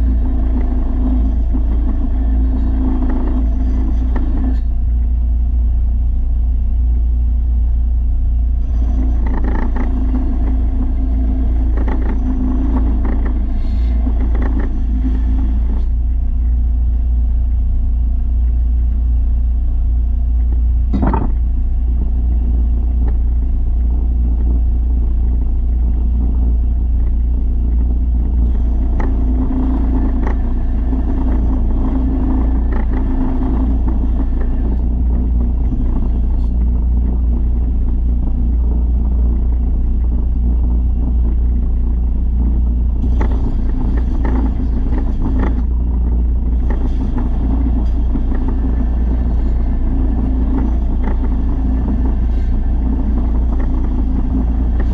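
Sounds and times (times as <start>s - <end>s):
motor rumbling: 0.0s - 54.9s.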